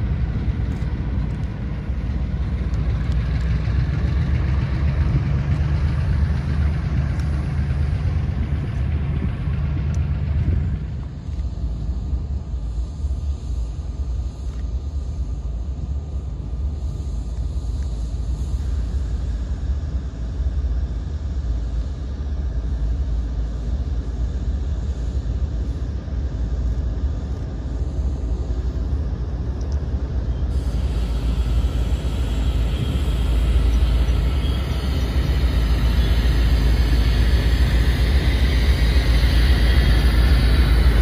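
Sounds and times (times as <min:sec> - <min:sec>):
diesel locomotive engines rumbling: 0:00.0 - 0:41.0.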